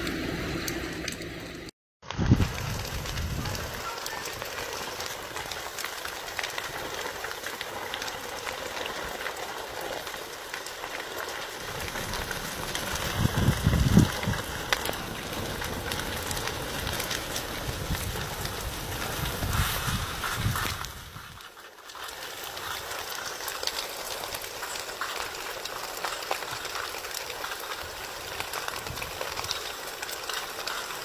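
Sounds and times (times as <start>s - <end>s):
fire crackling and hissing: 0.0s - 31.0s
fire pops and snaps: 2.0s - 31.0s.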